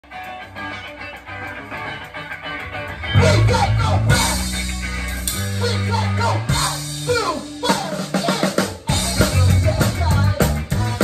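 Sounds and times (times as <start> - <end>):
bass guitar: 0.0 - 11.0
electric guitar: 0.0 - 11.0
drums and cymbals: 0.1 - 11.0.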